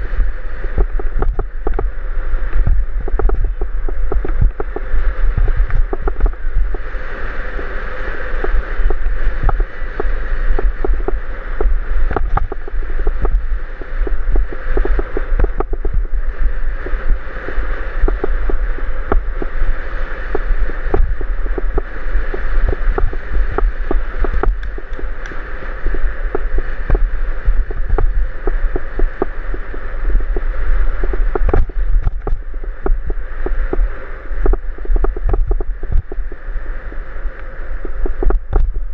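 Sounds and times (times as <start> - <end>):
wind rumbling on microphone: 0.0 - 38.9.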